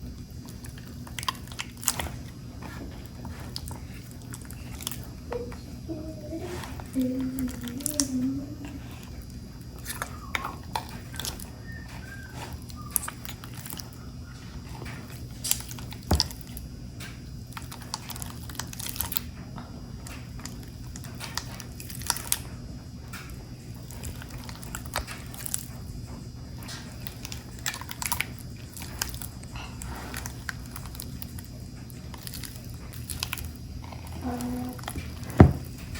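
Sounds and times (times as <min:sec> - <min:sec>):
sticky wet mixing clicks: 0:00.0 - 0:35.9.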